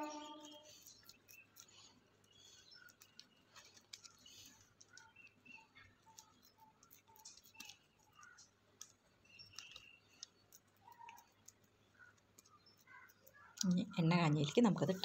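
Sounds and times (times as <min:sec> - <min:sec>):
faint chirping: 0:00.0 - 0:15.0.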